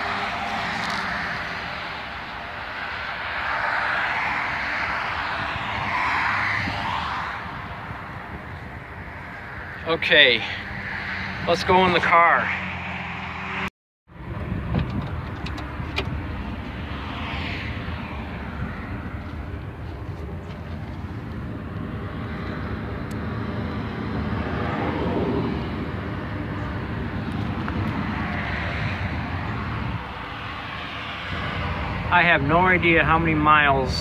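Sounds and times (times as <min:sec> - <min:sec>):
passing traffic: 0:00.0 - 0:34.0.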